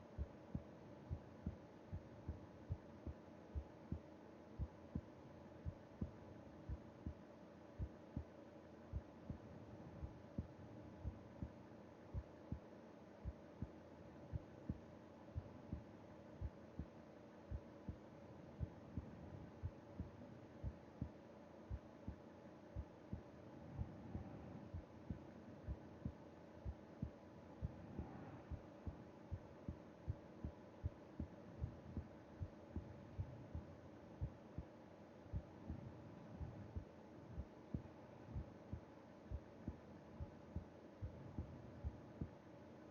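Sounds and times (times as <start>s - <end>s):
heartbeat: 0.0s - 22.2s, 22.8s - 34.7s, 35.3s - 42.4s
faint hum: 0.0s - 42.9s.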